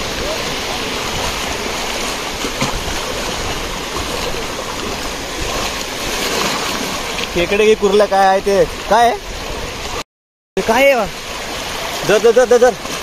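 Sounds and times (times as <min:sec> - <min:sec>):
sea surf washing on shore: 0:00.0 - 0:10.0, 0:10.6 - 0:13.0.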